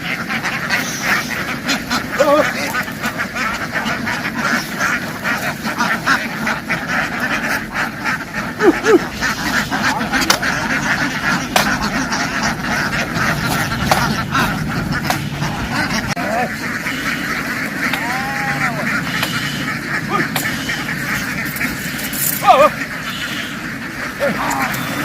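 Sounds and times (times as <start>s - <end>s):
flock of ducks quacking: 0.0s - 25.0s.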